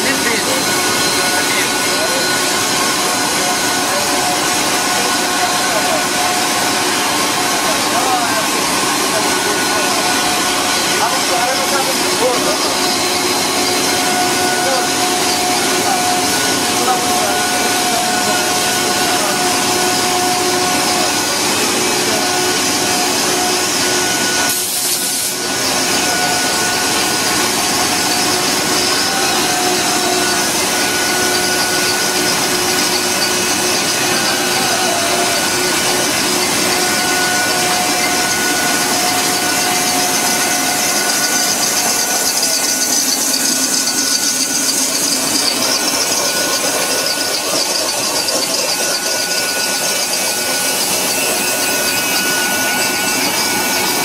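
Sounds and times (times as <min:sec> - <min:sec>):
loud even machine noise: 0:00.0 - 0:54.0.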